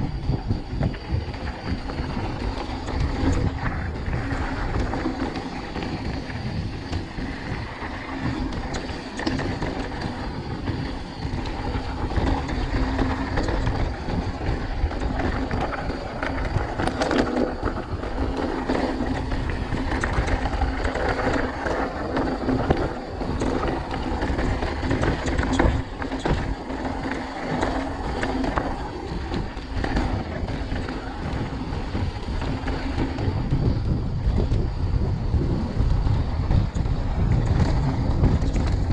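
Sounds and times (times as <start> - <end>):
bike rattling: 0.0 - 38.9
wind buffeting microphone: 0.0 - 38.9.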